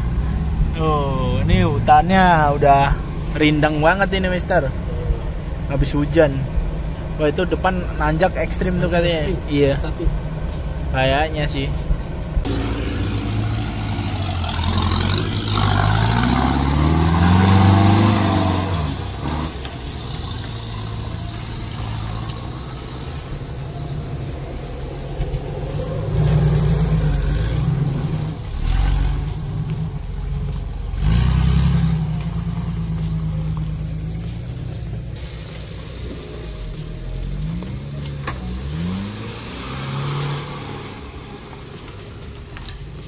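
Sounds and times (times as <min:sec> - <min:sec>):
off-road engine revving: 0:00.0 - 0:43.0.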